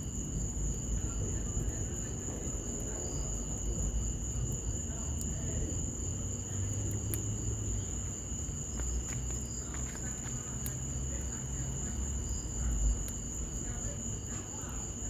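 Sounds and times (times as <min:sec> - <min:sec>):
crickets trilling: 0:00.0 - 0:15.0
wood fire crackling: 0:00.0 - 0:15.0.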